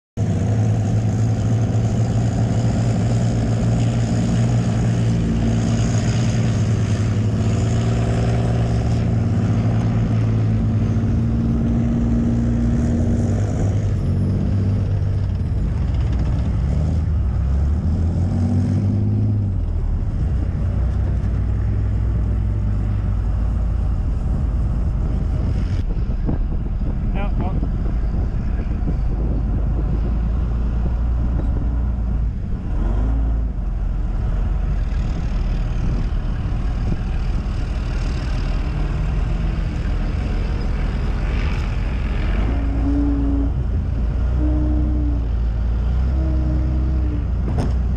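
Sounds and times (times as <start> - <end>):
tank diesel engine running: 0.2 - 47.9.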